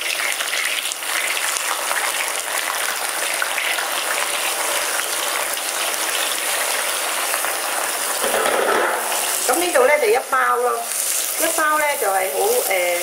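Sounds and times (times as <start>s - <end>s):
mushrooms deep-frying in oil: 0.0s - 13.0s.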